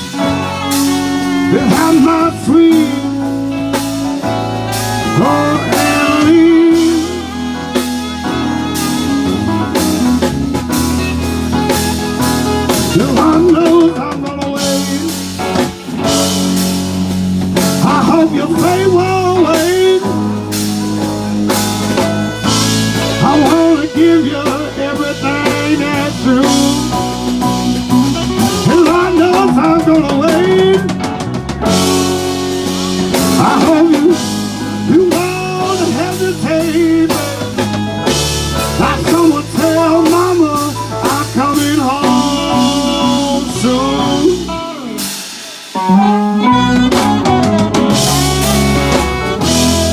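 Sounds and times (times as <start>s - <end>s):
live blues-rock band playing: 0.0s - 49.9s.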